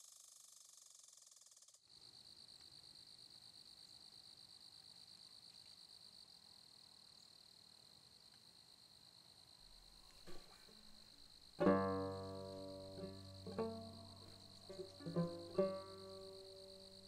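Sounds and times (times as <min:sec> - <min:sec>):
faint crickets chirping: 0:00.0 - 0:17.0.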